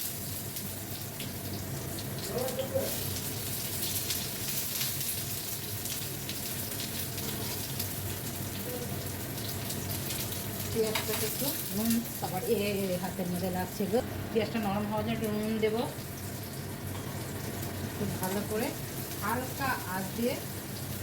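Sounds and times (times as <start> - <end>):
onion sizzling in hot oil: 0.0 - 21.0.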